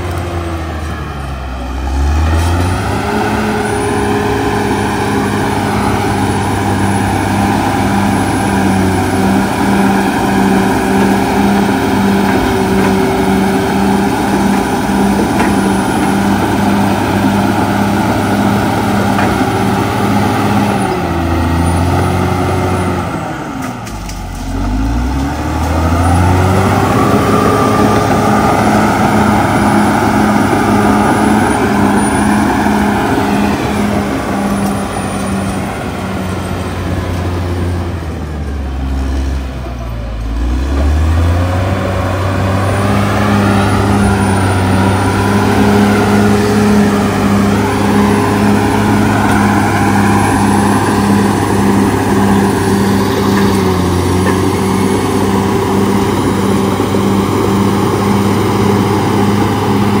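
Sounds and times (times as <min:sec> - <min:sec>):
bulldozer diesel engine: 0:00.0 - 1:00.0.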